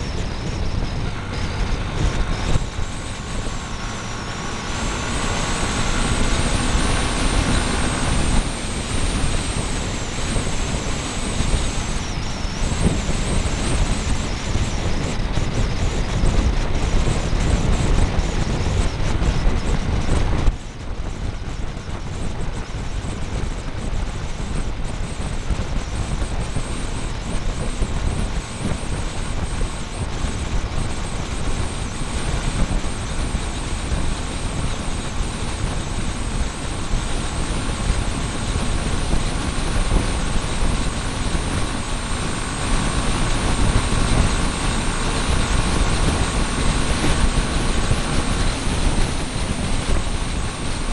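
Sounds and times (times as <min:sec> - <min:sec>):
motorbike engine and road noise: 0:00.0 - 0:50.9
wind rush: 0:00.0 - 0:50.9.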